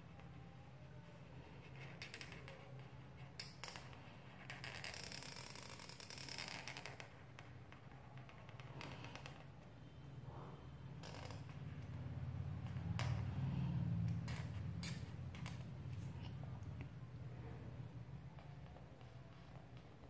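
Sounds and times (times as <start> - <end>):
faint low hum: 0.0 - 4.9, 6.7 - 20.0.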